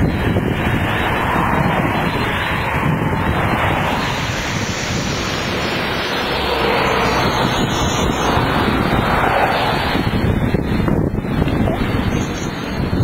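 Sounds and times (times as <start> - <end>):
jet engine roar: 0.0 - 13.0
wind buffeting microphone: 0.0 - 13.0.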